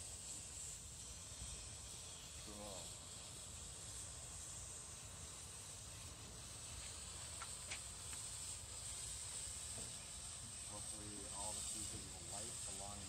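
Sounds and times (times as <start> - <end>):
smoke fireworks hissing: 0.0 - 13.0.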